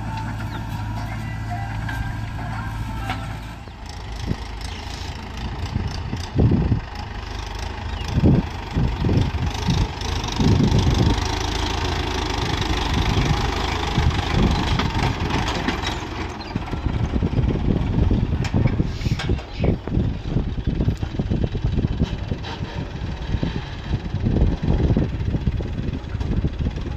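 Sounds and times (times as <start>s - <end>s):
loud low rumbles: 0.0s - 26.9s
tractor diesel engine running: 0.0s - 26.9s.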